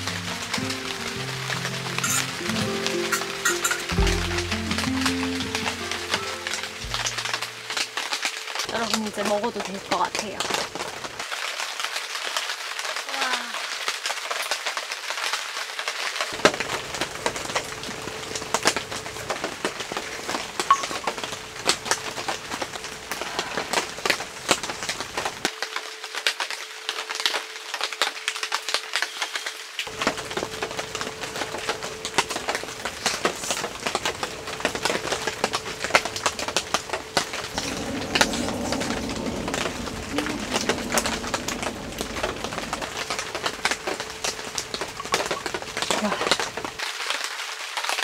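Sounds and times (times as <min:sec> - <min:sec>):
rain pattering on tent fabric: 0:00.0 - 0:48.0.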